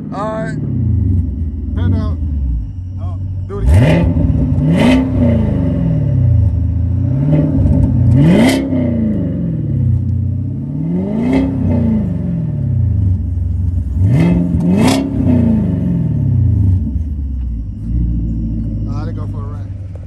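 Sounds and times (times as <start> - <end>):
car engine revving from idle: 0.0 - 20.0.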